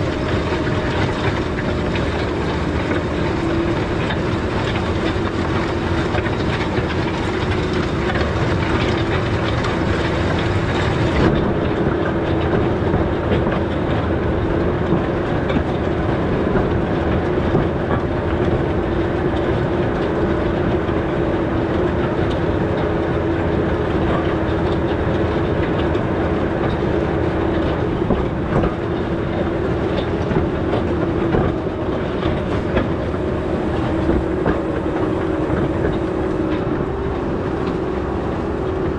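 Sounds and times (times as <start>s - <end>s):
machinery rattling: 0.0s - 38.9s
tractor engine running: 0.0s - 38.9s.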